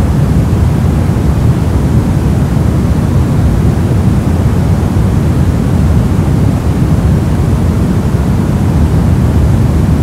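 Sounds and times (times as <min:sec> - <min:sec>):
deep steady pink noise: 0:00.0 - 0:10.0.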